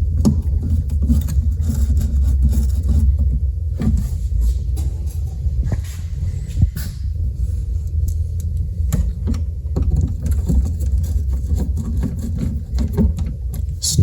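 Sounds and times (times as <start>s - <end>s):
steady low rumble: 0.0s - 11.5s, 13.4s - 14.0s.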